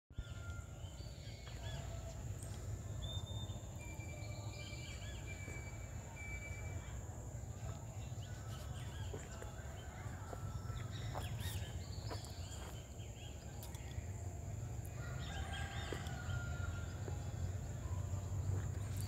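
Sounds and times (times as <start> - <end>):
birds chirping: 0.2 - 19.0.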